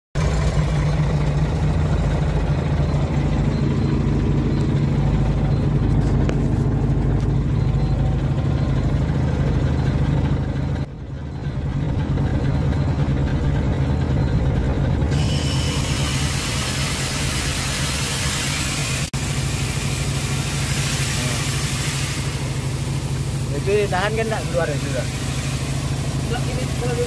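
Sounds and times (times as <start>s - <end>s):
diesel engine idling: 0.2s - 27.0s.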